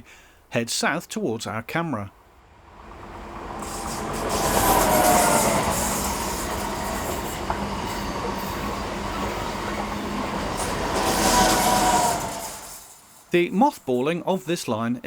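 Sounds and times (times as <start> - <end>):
passenger train passing: 2.2 - 14.9.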